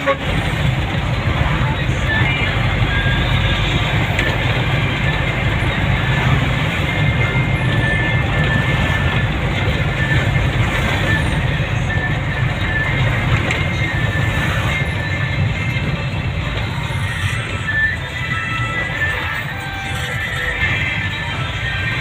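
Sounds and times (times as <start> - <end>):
music playing: 0.0 - 22.0
vehicle road noise: 0.0 - 22.0.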